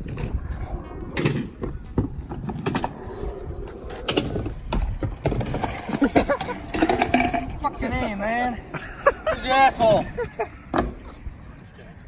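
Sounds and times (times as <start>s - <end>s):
scooter wheels rolling on concrete: 0.0s - 12.0s.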